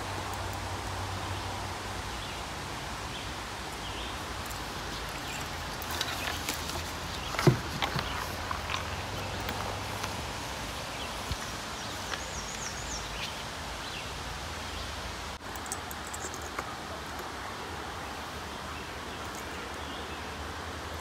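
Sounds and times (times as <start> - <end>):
breeze in leaves: 0.0 - 21.0.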